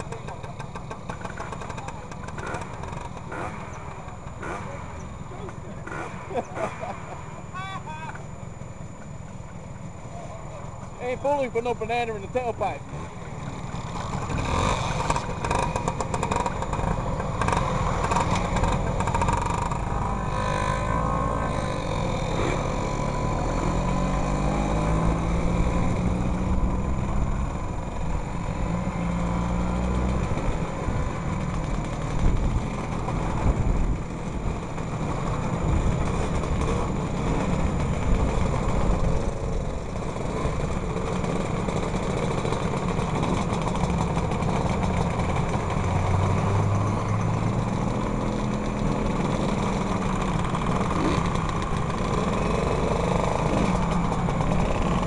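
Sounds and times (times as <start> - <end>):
two-stroke scooter engine revving: 0.0 - 10.1, 10.7 - 55.0.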